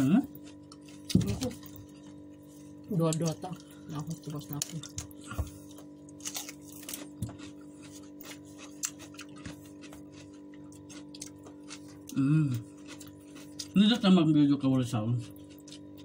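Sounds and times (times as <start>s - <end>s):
chewing raw vegetables: 0.0s - 16.0s.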